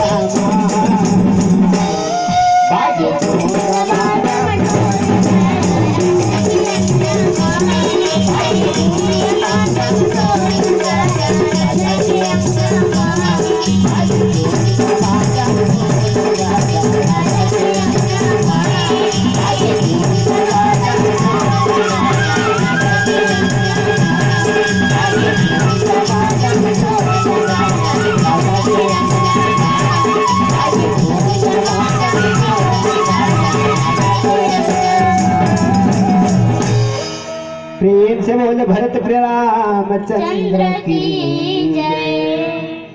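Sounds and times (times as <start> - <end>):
jingling shaken percussion: 0.0 - 2.3, 3.0 - 37.8
hand drum rhythm: 0.0 - 37.4.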